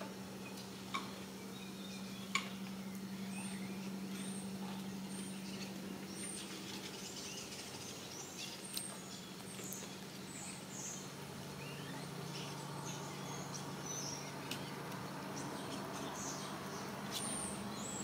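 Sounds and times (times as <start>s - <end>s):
low hum: 0.0s - 18.0s
small bird chirping: 0.4s - 18.0s.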